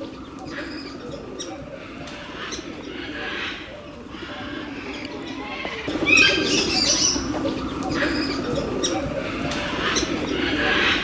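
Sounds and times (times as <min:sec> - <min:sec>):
birds cooing: 0:00.0 - 0:11.0.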